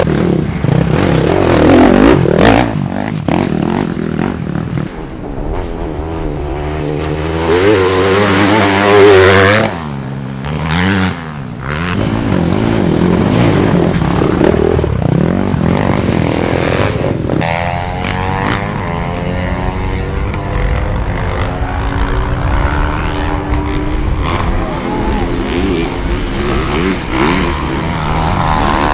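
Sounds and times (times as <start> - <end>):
motorbike engines revving: 0.0 - 28.9
steady engine drone: 0.0 - 28.9.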